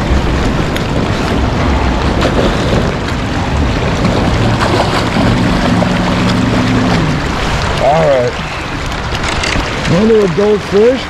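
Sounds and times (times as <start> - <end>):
wind buffeting microphone: 0.0 - 10.8
pouring rain: 0.0 - 11.0
river water flowing: 0.0 - 11.0.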